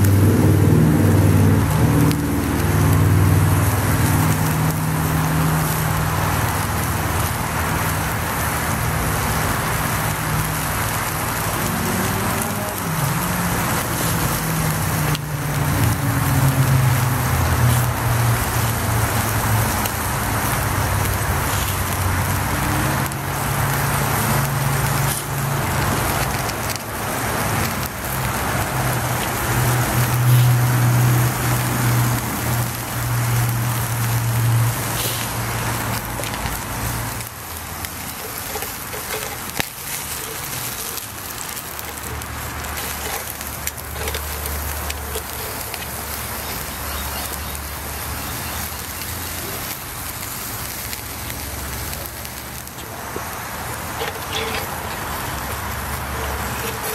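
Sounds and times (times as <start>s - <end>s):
fat crackling on coals: 0.0s - 56.9s
meat sizzling over charcoal: 0.0s - 56.9s.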